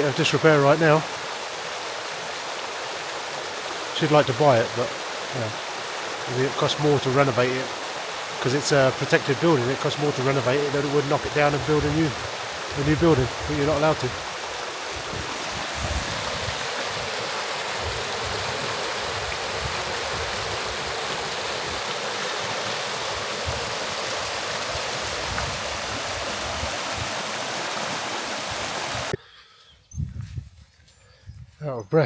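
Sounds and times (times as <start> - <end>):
running water rushing: 0.0 - 29.2.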